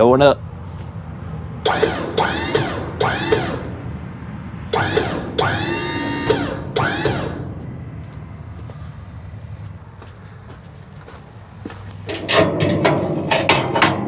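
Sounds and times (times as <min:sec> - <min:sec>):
steady low hum: 0:00.4 - 0:13.6.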